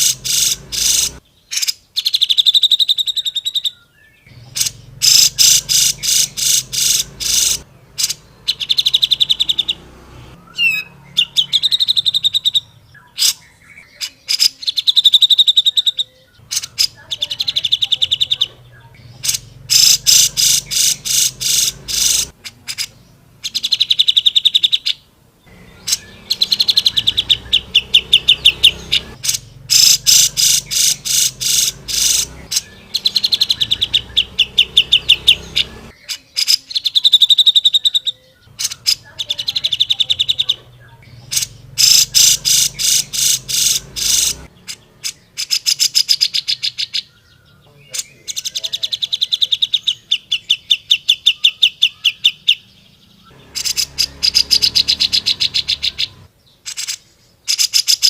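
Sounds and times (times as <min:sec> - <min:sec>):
bird singing rapid chattering notes: 0:00.0 - 0:58.0.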